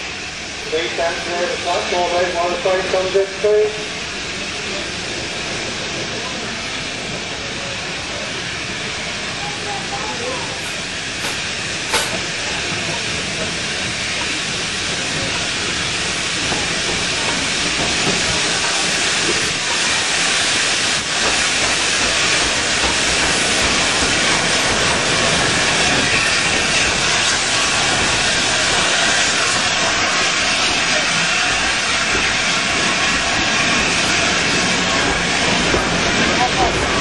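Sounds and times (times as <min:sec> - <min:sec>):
steam hissing: 0:00.0 - 0:37.0
train wheels on track: 0:00.0 - 0:37.0.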